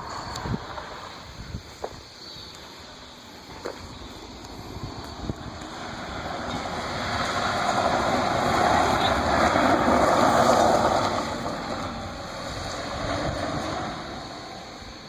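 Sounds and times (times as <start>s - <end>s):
drifting car engine and tyres: 0.0s - 15.0s.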